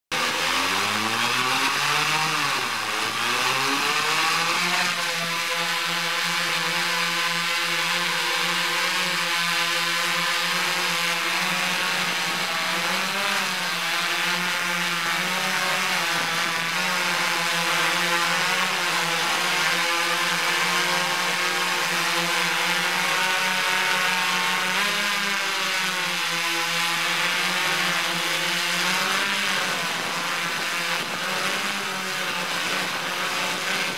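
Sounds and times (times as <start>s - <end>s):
drone propellers buzzing: 0.1s - 33.9s.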